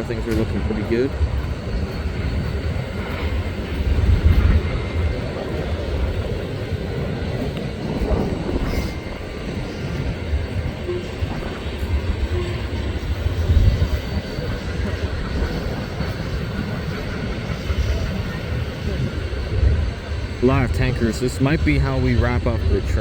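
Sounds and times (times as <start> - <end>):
freight train rolling on rails: 0.0 - 23.0.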